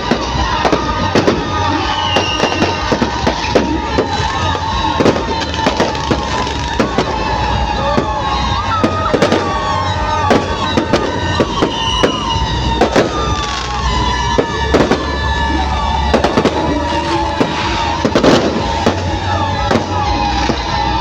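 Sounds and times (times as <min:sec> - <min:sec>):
fireworks bangs and crackles: 0:00.0 - 0:21.0
fireworks whistles: 0:00.0 - 0:21.0.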